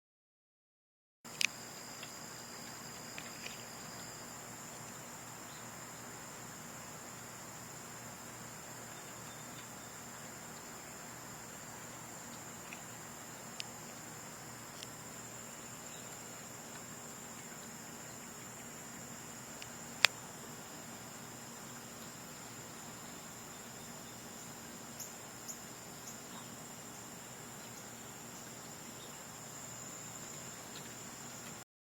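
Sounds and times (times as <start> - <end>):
insects trilling: 1.3 - 31.6.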